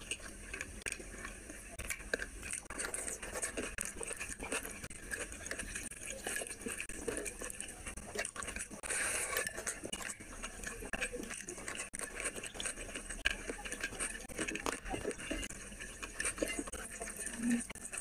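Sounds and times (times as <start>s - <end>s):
chewing and wet mouth sounds: 0.0s - 18.0s
fingers squishing rice: 0.0s - 18.0s.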